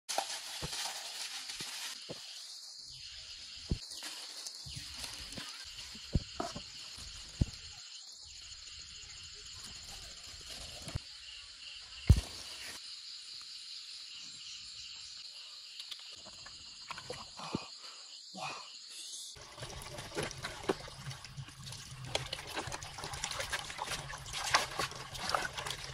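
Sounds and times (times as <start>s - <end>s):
night insects chirping: 0.7s - 25.9s.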